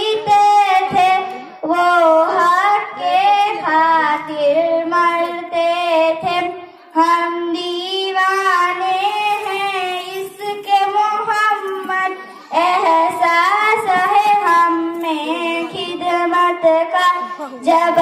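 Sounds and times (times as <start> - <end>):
girl singing into a microphone: 0.0 - 18.0.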